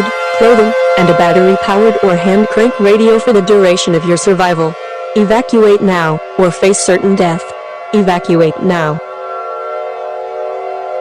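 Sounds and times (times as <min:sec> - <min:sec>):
droning horn-like chord: 0:00.0 - 0:11.0.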